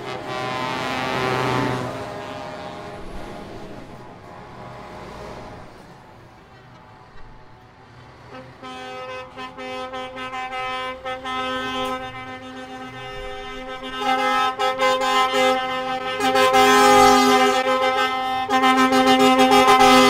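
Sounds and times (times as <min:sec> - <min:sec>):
truck air horn blasts: 0:00.0 - 0:05.6, 0:08.2 - 0:20.0.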